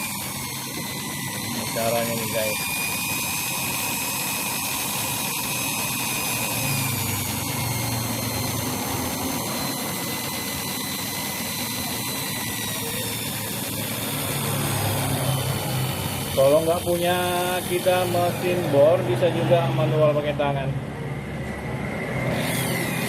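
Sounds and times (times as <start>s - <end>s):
electric drill whining: 0.0s - 23.0s.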